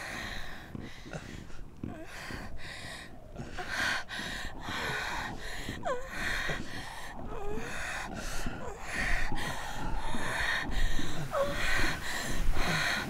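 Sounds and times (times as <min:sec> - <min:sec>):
person gasping breaths: 0:00.0 - 0:13.0.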